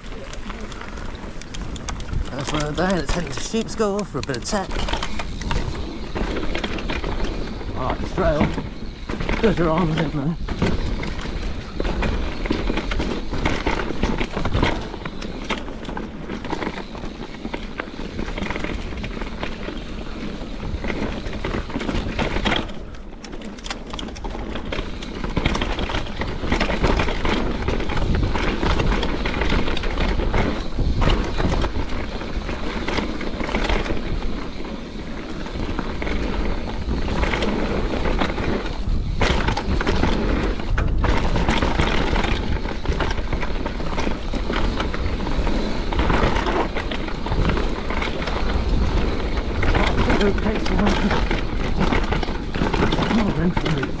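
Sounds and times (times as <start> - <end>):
wind buffeting microphone: 0.0 - 23.0, 24.0 - 54.0
bike rattling and knocking: 0.0 - 54.0
bike tyres rumbling over dirt: 0.0 - 54.0.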